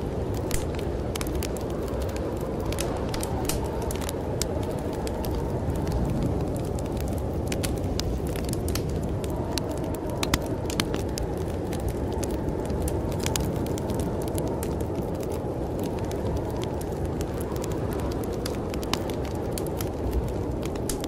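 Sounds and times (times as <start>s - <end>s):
fire crackling and popping: 0.0s - 21.0s
low rumble of storm wind: 0.0s - 21.0s.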